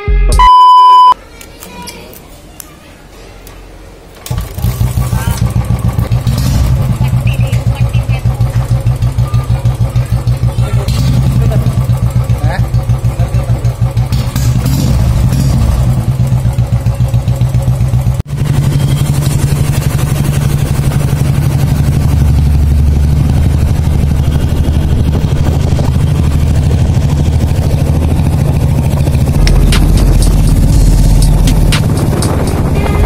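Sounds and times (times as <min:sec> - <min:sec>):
motorcycle engine thumping: 0:04.2 - 0:32.7.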